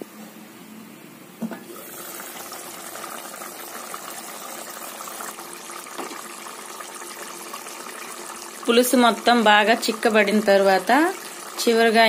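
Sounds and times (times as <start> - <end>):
curry bubbling and sputtering: 1.7 - 12.0.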